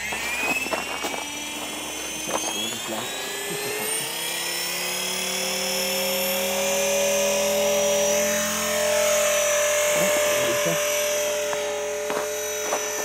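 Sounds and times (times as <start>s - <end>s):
rc helicopter rotor whining: 0.0s - 13.0s.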